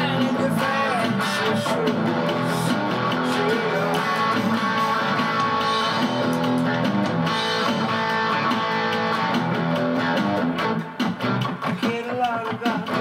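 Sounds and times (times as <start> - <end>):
strummed guitar: 0.0 - 13.0.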